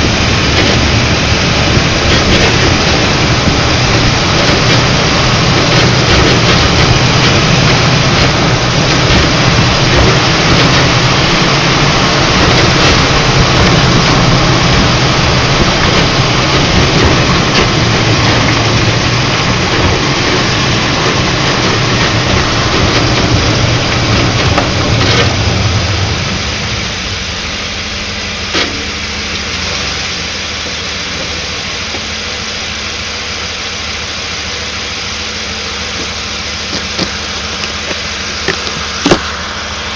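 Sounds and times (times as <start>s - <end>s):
vehicle running: 0.0s - 39.9s.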